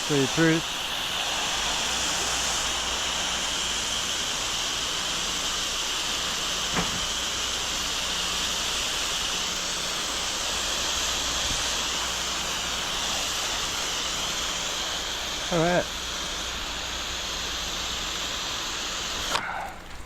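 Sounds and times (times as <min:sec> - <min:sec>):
engine running: 0:00.0 - 0:20.0
pressure washer spraying: 0:00.0 - 0:20.0.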